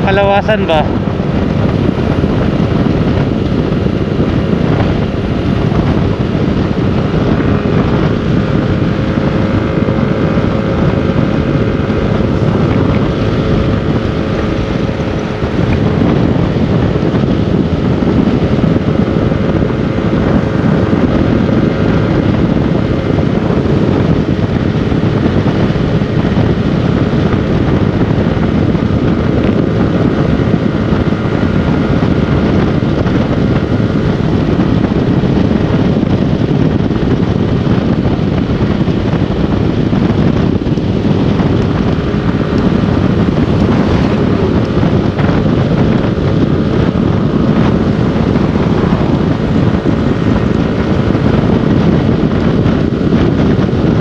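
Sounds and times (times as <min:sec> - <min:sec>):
motorcycle running: 0:00.0 - 0:54.0
wind rushing over microphone: 0:00.0 - 0:54.0.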